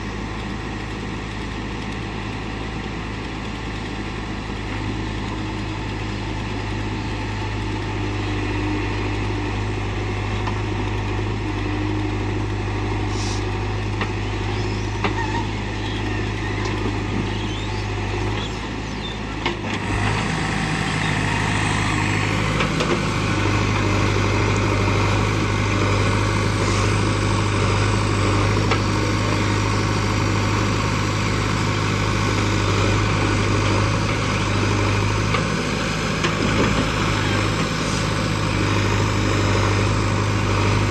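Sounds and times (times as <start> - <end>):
diesel engines running: 0.0 - 40.9.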